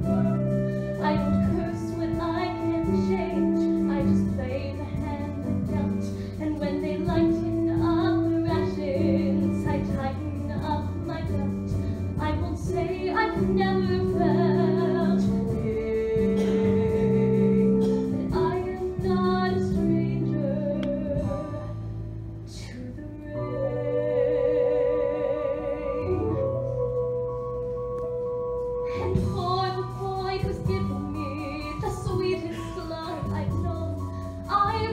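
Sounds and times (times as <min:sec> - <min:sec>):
woman singing ballad: 0:00.0 - 0:21.9, 0:22.5 - 0:34.9
instrumental accompaniment: 0:00.0 - 0:34.9.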